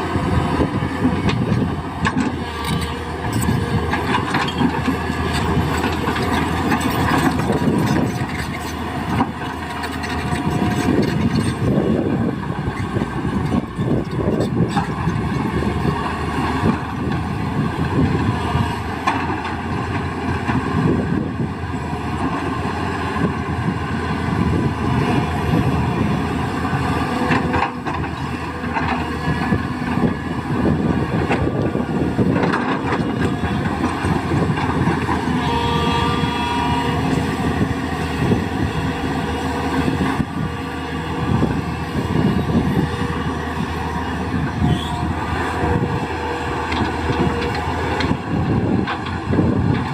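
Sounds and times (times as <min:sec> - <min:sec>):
excavator engine and hydraulics: 0:00.0 - 0:49.9.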